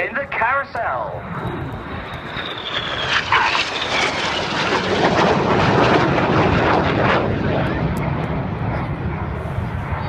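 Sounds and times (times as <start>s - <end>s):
high jet whine falling in pitch: 0.0s - 9.4s
jets flying past: 0.0s - 10.0s.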